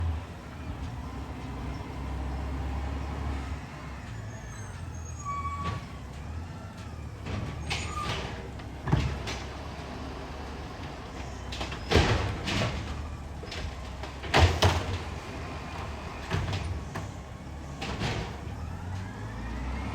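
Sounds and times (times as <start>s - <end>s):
garbage truck engine rumbling: 0.0s - 19.9s.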